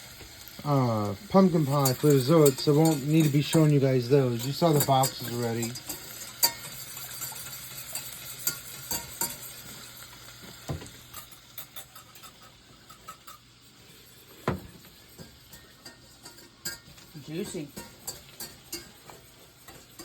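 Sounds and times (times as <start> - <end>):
faint steady hiss: 0.0 - 20.0
utensils clinking on cookware: 0.2 - 20.0.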